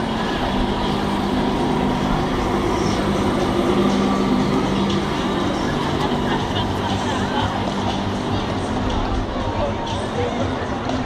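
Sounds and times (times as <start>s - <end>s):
tram electric hum: 0.0s - 11.0s
tram wheels on rails: 0.0s - 11.0s.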